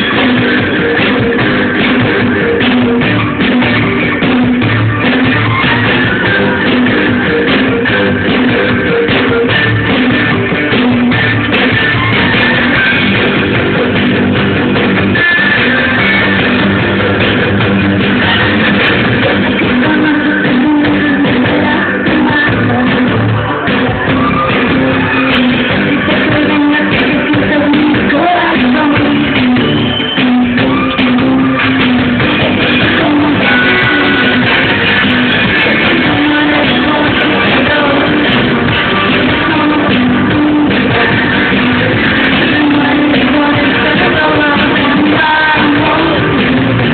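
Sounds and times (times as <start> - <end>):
bass line: 0.0 - 46.9
drum kit: 0.0 - 46.9
electric guitar: 0.0 - 46.9
live rock band playing: 0.0 - 46.9.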